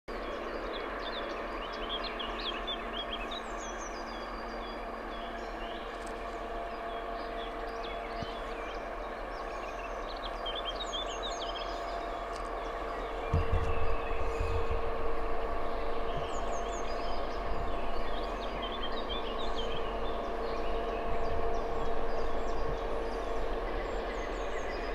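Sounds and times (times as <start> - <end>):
distant diesel locomotive drone: 0.1 - 24.9
songbirds chirping: 0.1 - 24.9
steady humming tones: 0.1 - 24.9.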